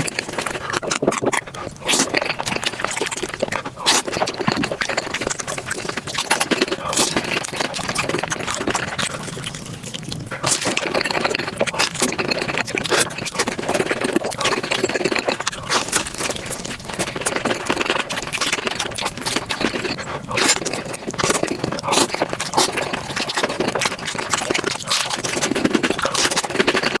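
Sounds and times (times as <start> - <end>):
wet chewing and smacking: 0.0 - 27.0.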